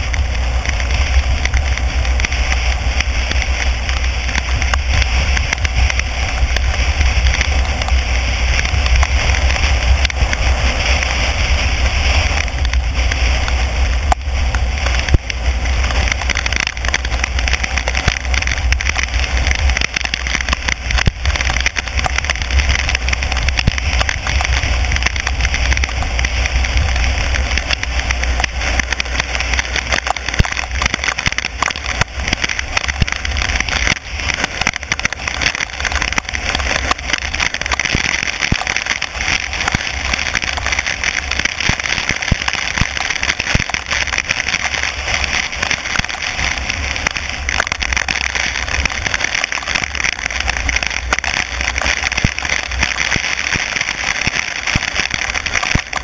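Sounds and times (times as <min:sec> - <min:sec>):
car engine and tyres rumbling: 0:00.0 - 0:56.0
heavy rain hitting car: 0:00.0 - 0:56.0.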